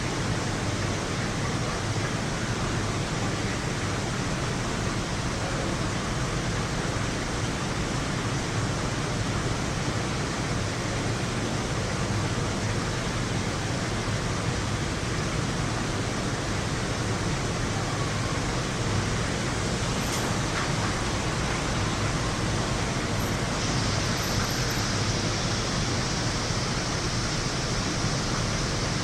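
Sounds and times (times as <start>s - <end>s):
heavy rain falling: 0.1s - 29.0s.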